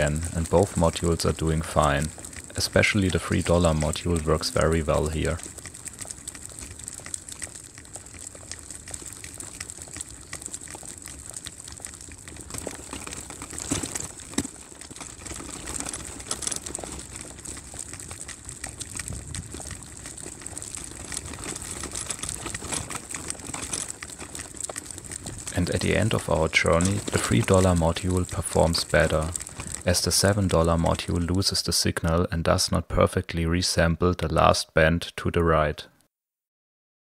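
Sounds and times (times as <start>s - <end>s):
buggy wheels rattling on pavement: 0.0s - 32.6s
constant hiss: 0.0s - 36.0s.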